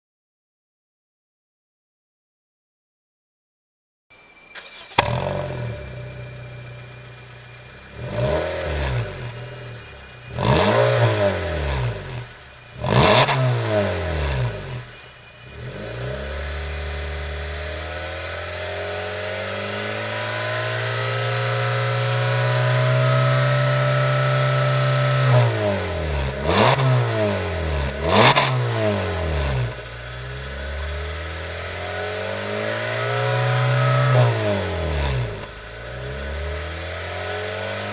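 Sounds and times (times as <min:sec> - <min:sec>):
car engine revving: 0:04.6 - 0:37.9.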